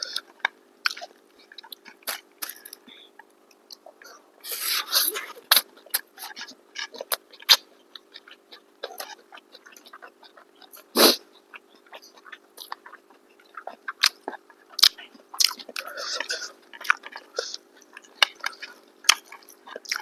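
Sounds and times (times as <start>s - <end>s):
chewing and crunching: 0.0s - 4.3s, 5.2s - 20.0s
faint steady hum: 0.0s - 20.0s.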